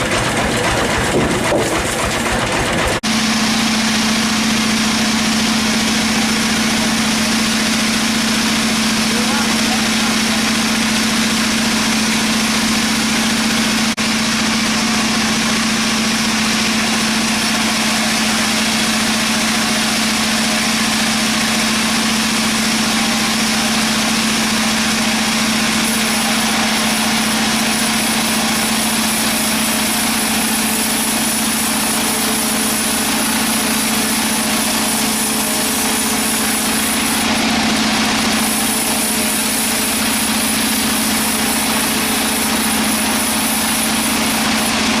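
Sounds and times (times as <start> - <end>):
sawmill machinery humming: 0.0 - 45.0.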